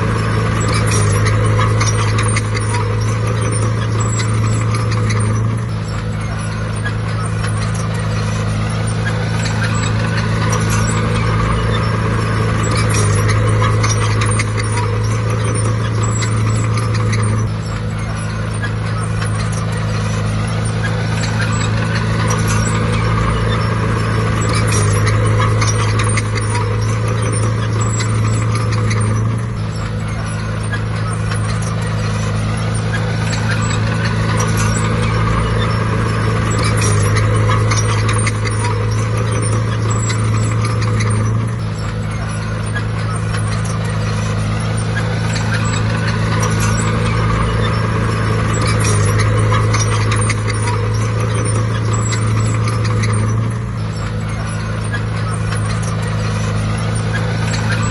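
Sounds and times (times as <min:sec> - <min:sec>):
diesel engine running hard: 0:00.0 - 0:57.9
steel tracks clattering: 0:00.0 - 0:57.9.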